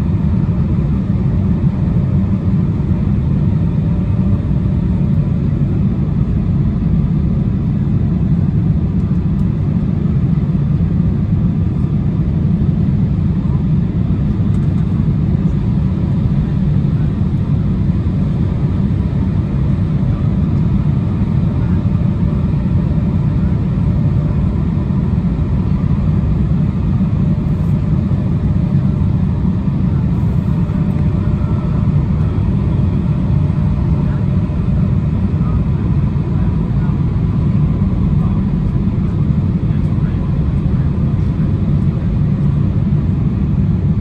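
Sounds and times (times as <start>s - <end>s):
airliner cabin engine drone: 0.0s - 44.0s
faint steady whine: 0.0s - 44.0s.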